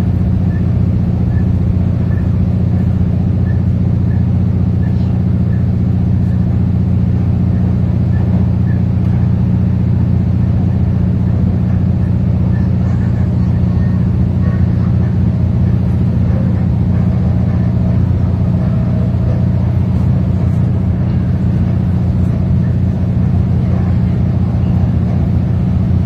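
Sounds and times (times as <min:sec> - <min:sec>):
low drone of railcar: 0:00.0 - 0:26.0.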